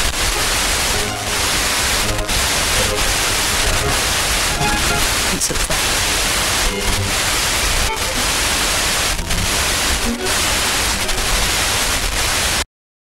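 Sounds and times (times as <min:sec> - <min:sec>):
distant radio station: 0:00.0 - 0:12.3
radio static hiss: 0:00.0 - 0:12.6.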